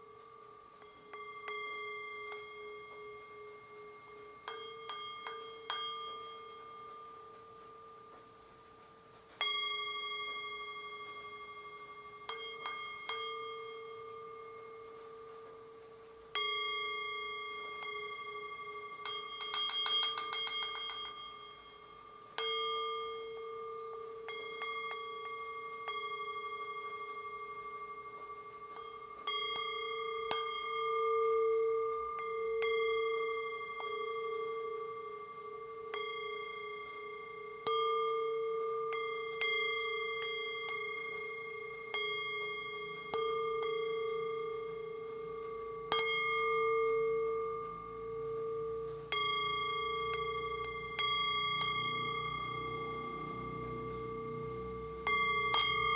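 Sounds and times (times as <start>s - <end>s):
struck bell-like metal tones: 0.0s - 55.9s.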